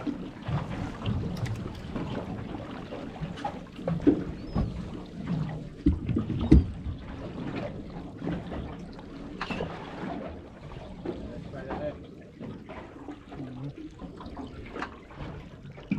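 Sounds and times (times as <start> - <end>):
knocks and thumps on boat: 0.0 - 13.6
water slapping against boat hull: 0.0 - 15.9.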